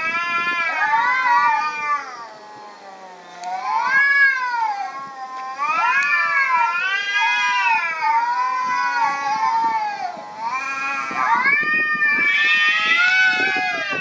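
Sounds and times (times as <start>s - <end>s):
cats yowling: 0.0s - 14.0s.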